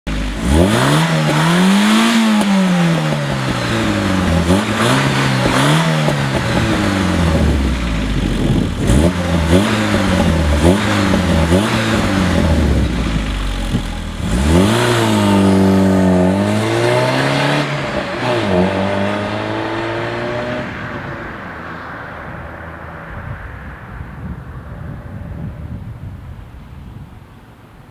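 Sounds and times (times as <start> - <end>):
car engine revving: 0.1 - 25.4.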